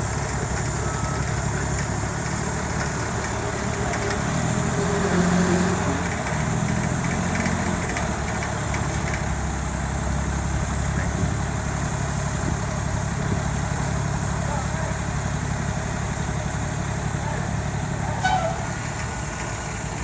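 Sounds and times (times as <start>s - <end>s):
street noise: 0.0s - 20.0s
vehicle engine idling: 0.0s - 20.0s.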